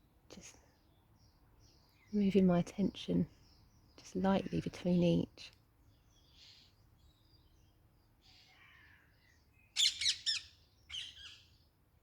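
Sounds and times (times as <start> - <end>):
birds chirping: 0.4 - 11.8.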